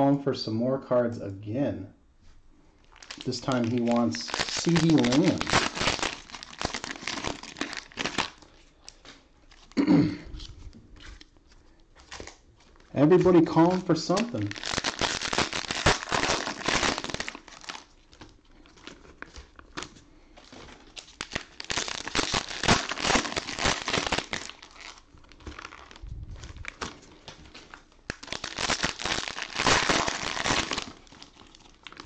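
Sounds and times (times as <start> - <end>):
plastic packs crinkling: 2.8 - 32.0.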